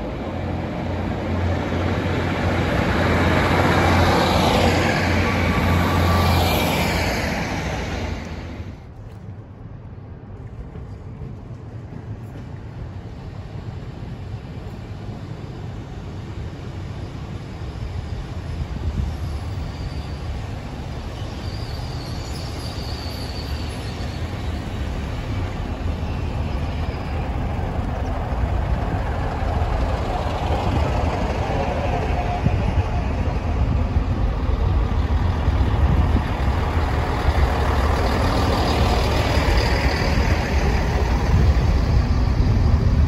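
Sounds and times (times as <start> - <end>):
train wheel noise: 0.0 - 9.4, 10.2 - 43.0
diesel train engine rumble: 0.0 - 43.0.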